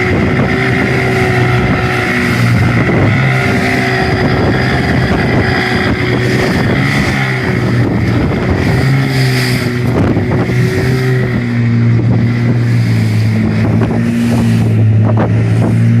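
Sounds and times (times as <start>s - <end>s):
motor boat engine running: 0.0s - 16.0s
water noise: 0.0s - 16.0s
wind on microphone: 0.0s - 16.0s.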